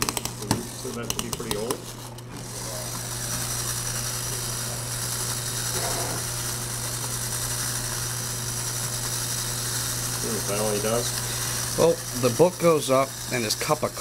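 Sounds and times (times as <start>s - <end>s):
wind-up toy gears whirring: 0.0s - 14.0s.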